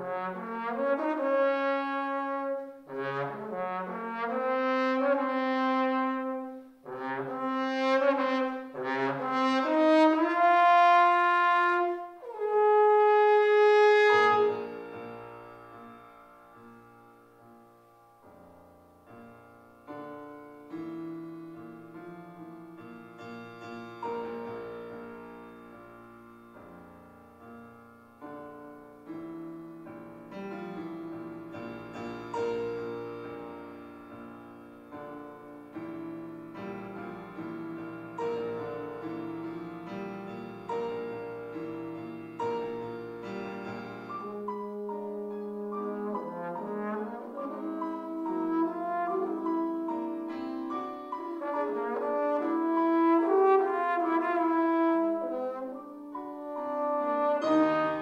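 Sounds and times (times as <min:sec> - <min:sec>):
solo trombone: 0:00.0 - 0:16.8, 0:19.2 - 0:25.7, 0:27.5 - 0:58.0
piano playing: 0:00.0 - 0:58.0.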